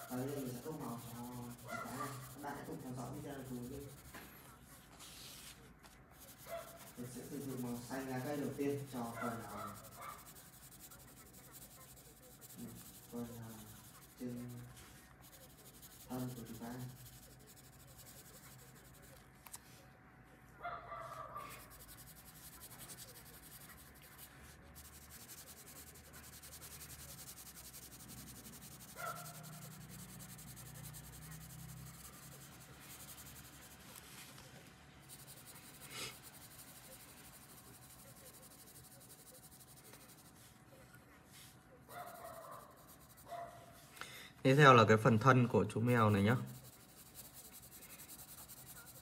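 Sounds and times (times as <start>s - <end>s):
colored pencil rubbing on paper: 0.0s - 19.3s, 21.4s - 34.4s, 35.0s - 40.6s, 41.3s - 43.4s, 45.4s - 49.0s.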